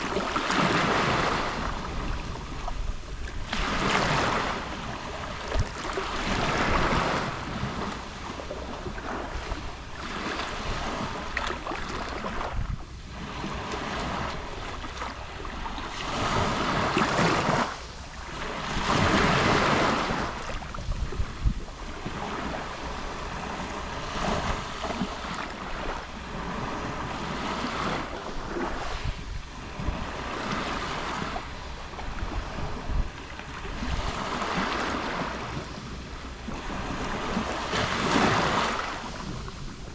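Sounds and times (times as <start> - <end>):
sea waves lapping on shore: 0.0 - 39.9
wind noise on microphone: 0.0 - 39.9.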